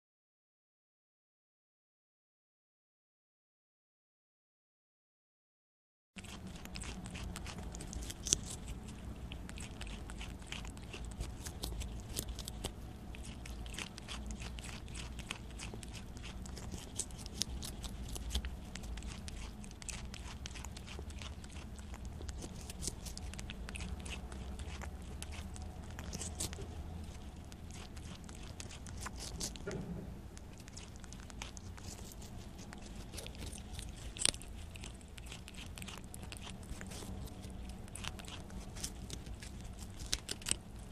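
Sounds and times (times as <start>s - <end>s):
animal chewing with small crunches: 6.2s - 40.9s
low steady hum: 6.2s - 40.9s.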